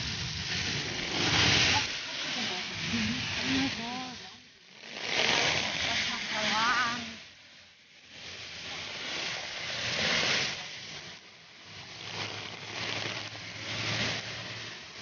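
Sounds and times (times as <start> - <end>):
steady rain: 0.0 - 15.0
tyres hissing on wet road: 0.0 - 15.0.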